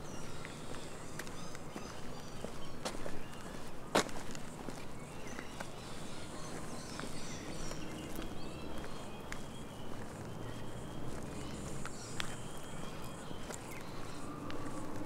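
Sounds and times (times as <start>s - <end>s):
footsteps on track: 0.0s - 15.0s.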